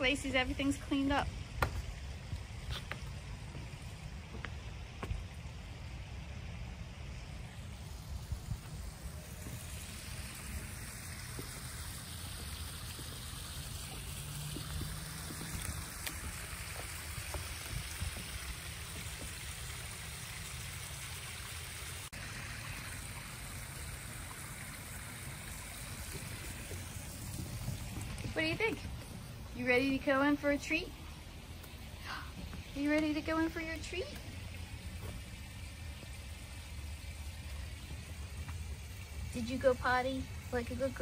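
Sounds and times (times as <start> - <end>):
low uneven rumble: 0.0 - 41.0
water trickling: 0.0 - 41.0.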